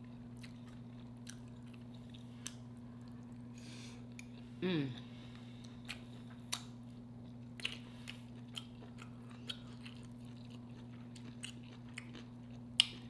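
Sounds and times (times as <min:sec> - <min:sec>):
person chewing food: 0:00.0 - 0:04.5, 0:05.3 - 0:13.0
faint low hum: 0:00.0 - 0:13.0.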